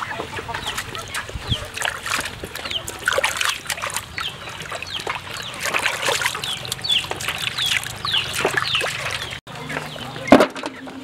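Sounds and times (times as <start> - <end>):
birds chirping: 0.0 - 11.0
water sloshing in metal basin: 0.0 - 11.0.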